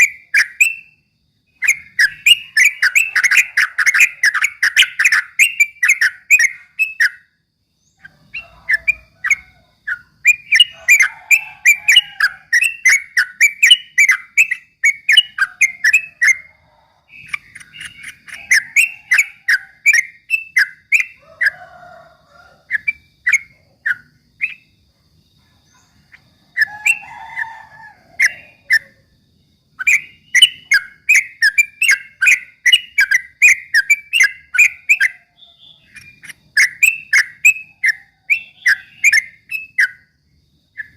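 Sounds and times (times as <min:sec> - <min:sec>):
bird singing chattering whistles: 0:00.0 - 0:21.2, 0:22.7 - 0:24.8, 0:29.8 - 0:40.1.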